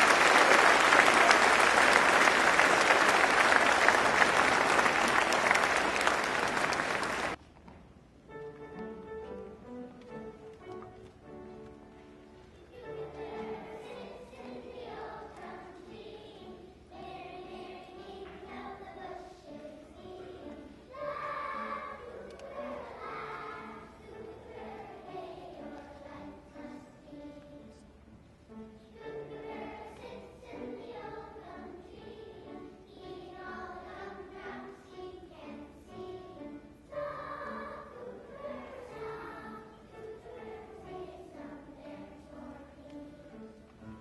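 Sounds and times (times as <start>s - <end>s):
children's choir singing: 0.0s - 7.4s, 8.8s - 44.0s.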